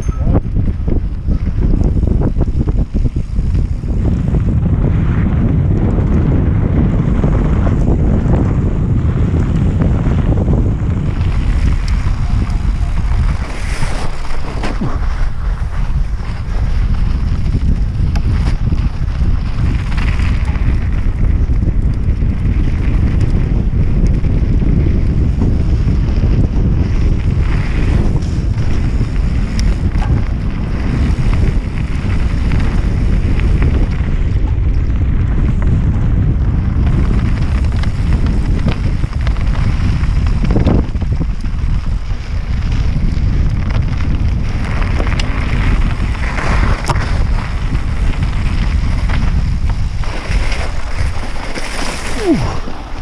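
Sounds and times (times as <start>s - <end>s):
tyres rumbling on dirt: 0.0s - 53.0s
wind buffeting microphone: 0.0s - 53.0s.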